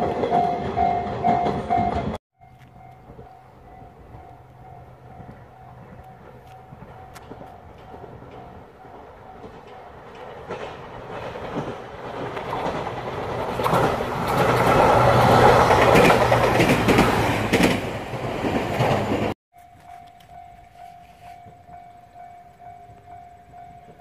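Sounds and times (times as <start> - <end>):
wheels clattering over rail joints: 0.0 - 20.5
electric train passing: 0.0 - 24.0.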